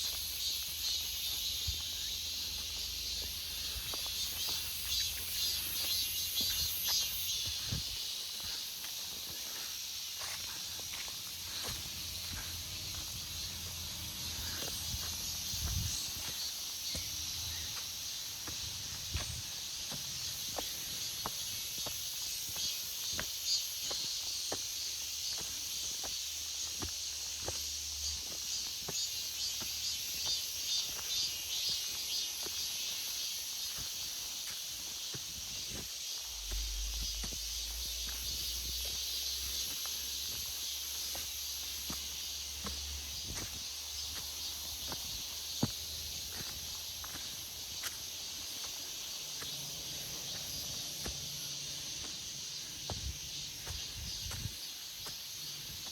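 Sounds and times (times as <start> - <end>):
cicadas buzzing: 0.0 - 55.9.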